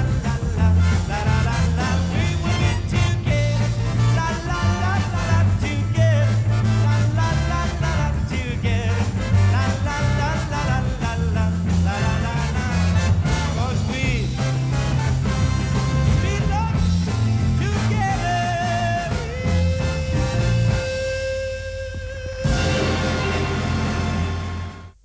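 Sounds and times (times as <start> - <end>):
upbeat instrumental pop music: 0.0 - 25.0.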